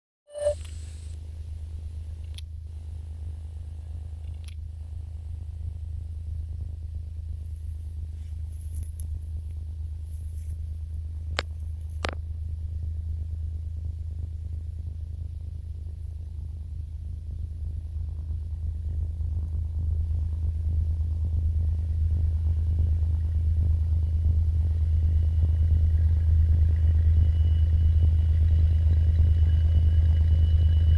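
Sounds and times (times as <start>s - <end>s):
diesel locomotive engine rumble: 0.5s - 30.9s.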